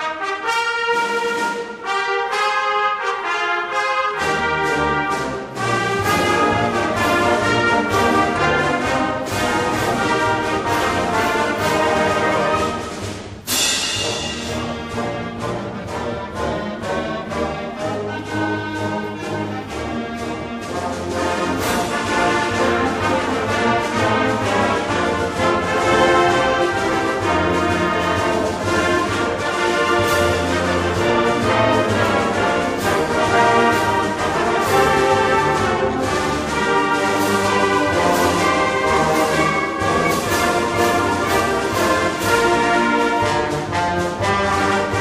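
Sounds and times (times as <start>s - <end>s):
orchestral brass chords: 0.0s - 45.0s.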